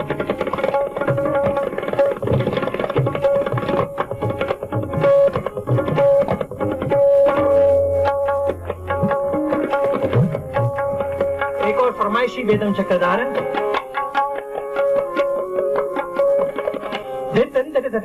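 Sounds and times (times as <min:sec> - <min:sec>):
rapid tabla strokes: 0:00.0 - 0:18.0.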